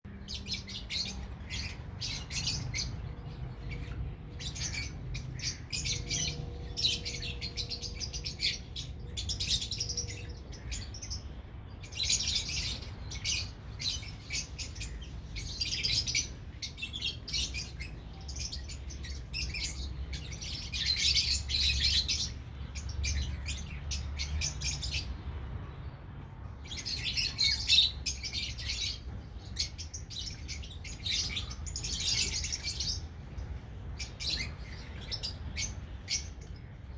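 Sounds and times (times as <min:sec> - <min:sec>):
lovebirds chirping: 0:00.1 - 0:36.9.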